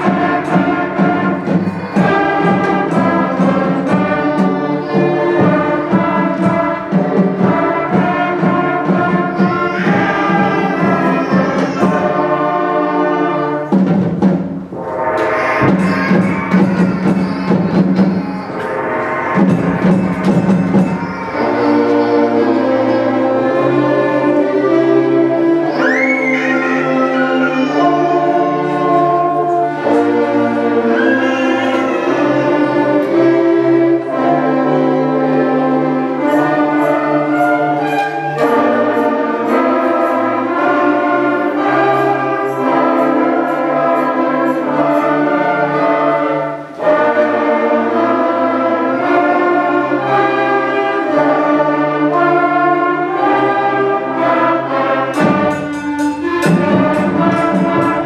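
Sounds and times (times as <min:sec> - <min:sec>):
sharp percussion hits: 0:00.0 - 0:46.2, 0:53.2 - 0:58.0
concert band playing: 0:00.0 - 0:58.0.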